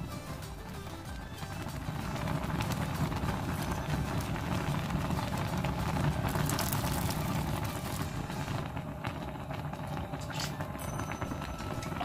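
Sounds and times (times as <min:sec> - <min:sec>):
stew boiling and bubbling: 0:00.0 - 0:12.0.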